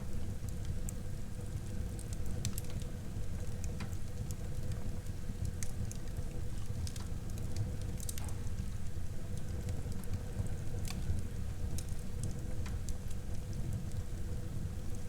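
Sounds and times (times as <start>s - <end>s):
wood fire crackling and popping: 0.1s - 15.0s.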